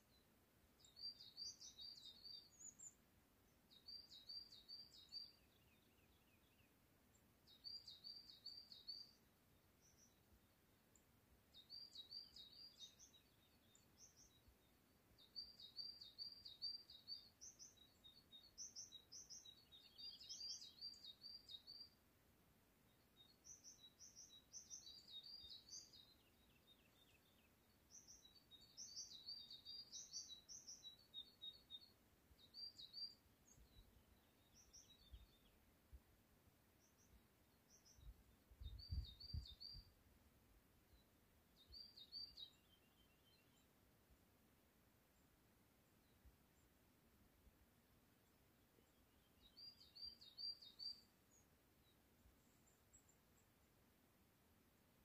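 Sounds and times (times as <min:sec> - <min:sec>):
small songbird singing: 0:00.0 - 0:55.0.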